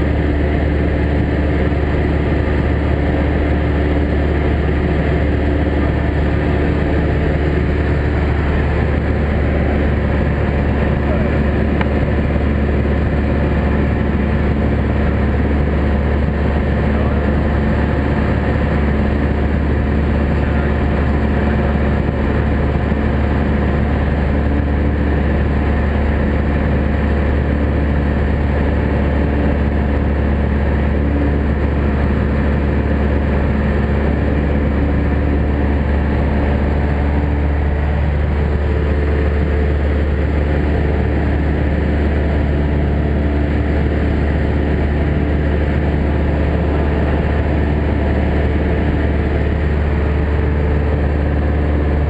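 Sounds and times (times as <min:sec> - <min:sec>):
light aircraft engine droning: 0:00.0 - 0:52.0.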